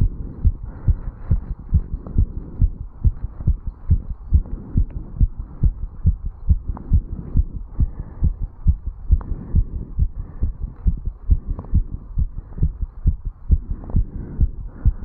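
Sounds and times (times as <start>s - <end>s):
fast heartbeat thumps: 0.0s - 15.0s.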